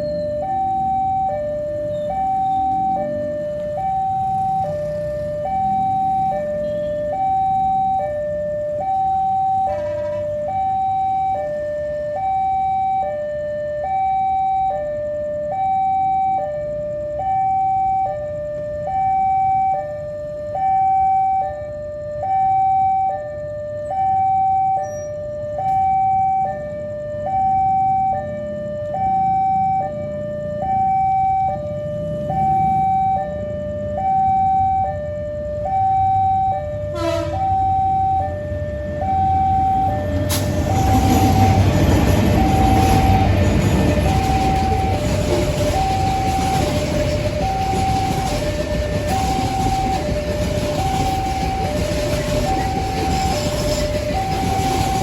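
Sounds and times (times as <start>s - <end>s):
level crossing warning alarm: 0.0s - 55.0s.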